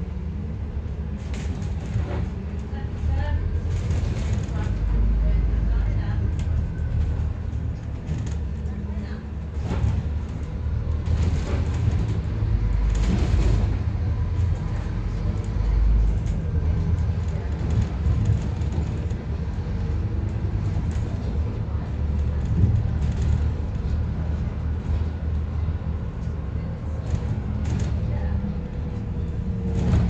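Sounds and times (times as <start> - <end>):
bus engine running under load: 0.0 - 30.0.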